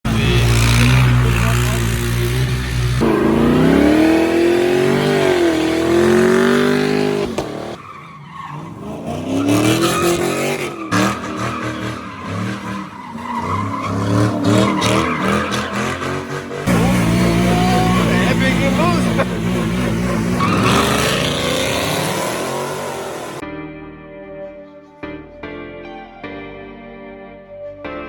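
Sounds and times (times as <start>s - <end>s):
vehicle engine revving: 0.0s - 7.8s, 8.5s - 23.4s
tire squeal: 0.1s - 23.4s.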